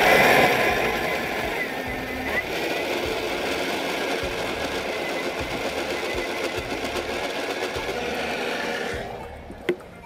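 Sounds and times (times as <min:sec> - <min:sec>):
blender motor whining: 0:00.0 - 0:09.7.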